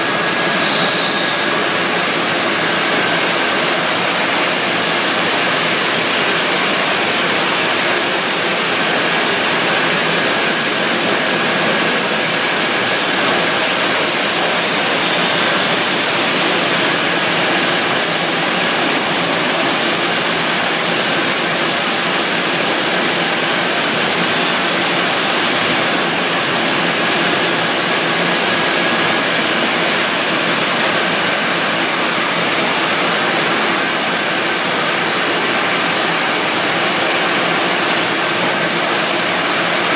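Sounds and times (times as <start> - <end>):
production machinery rushing: 0.0 - 34.8.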